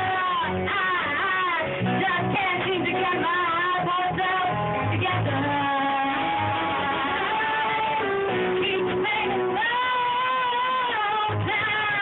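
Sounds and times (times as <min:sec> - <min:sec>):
small band with guitar and bass: 0:00.0 - 0:12.0
woman singing jazz ballad: 0:00.0 - 0:12.0.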